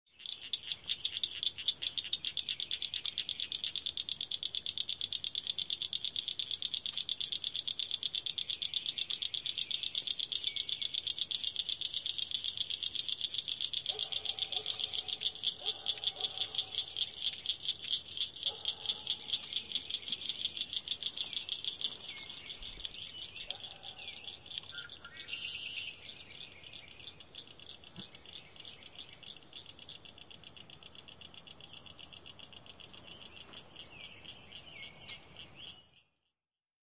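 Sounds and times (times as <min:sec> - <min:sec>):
frogs and insects trilling: 0:00.1 - 0:36.3.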